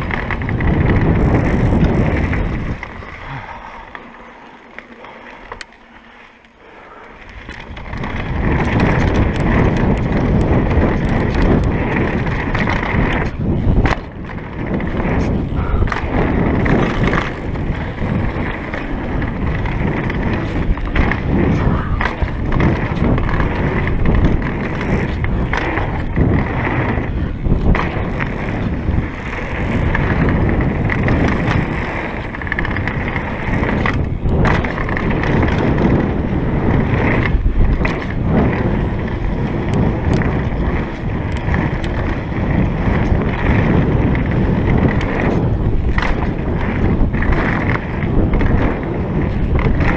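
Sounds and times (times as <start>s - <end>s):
tyres rolling over dirt and rocks: 0.0s - 6.5s, 7.2s - 49.9s
bike clicks and rattles: 0.0s - 49.9s
wind rushing: 0.0s - 49.9s.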